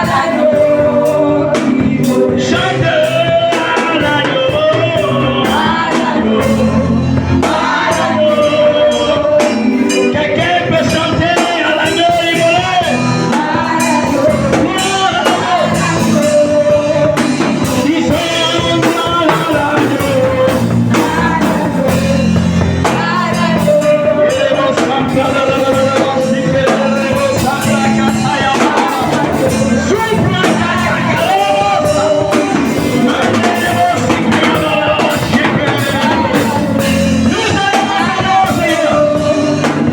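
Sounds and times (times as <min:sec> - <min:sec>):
band with bass and percussion: 0:00.0 - 0:39.9
voices singing: 0:00.0 - 0:39.9.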